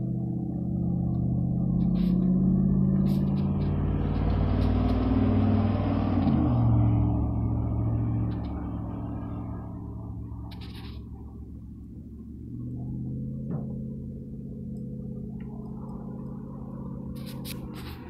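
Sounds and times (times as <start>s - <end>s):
vehicle engine passing: 0.0s - 18.0s.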